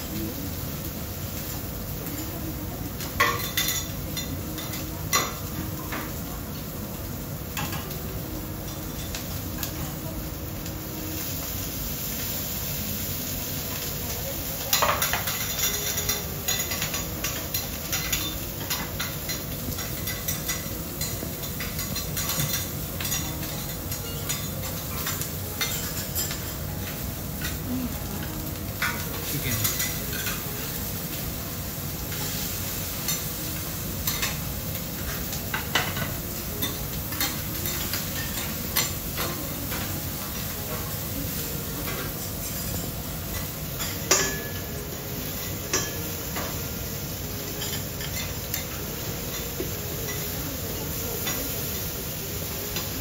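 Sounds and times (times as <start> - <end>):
food sizzling on a griddle: 0.0 - 53.0.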